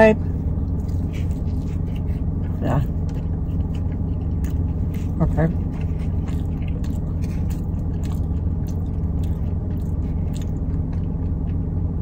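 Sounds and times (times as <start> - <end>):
low car interior rumble: 0.0 - 12.0
person chewing: 0.2 - 11.8.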